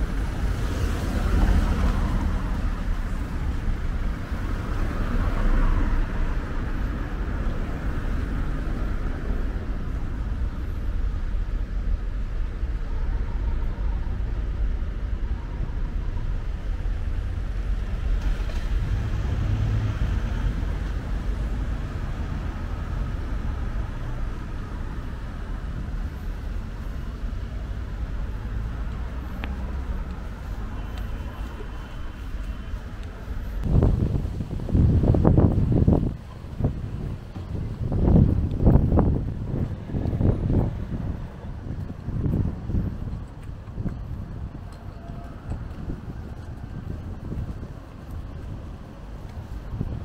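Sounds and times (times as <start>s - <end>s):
cars driving past: 0.0s - 50.0s.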